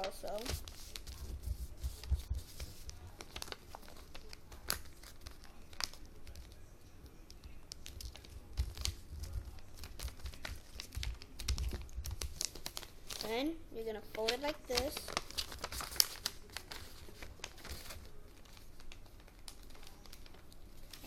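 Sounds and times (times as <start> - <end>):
paper rustling and crinkling: 0.0 - 21.0.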